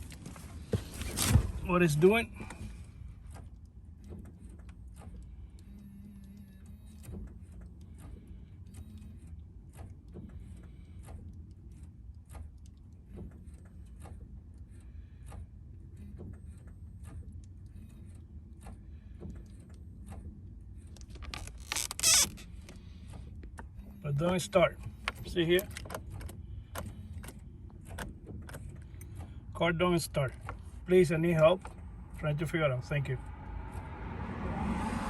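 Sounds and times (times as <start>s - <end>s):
sharp clicks inside car: 0.0s - 21.6s, 22.3s - 32.2s
low steady hum: 0.0s - 35.0s.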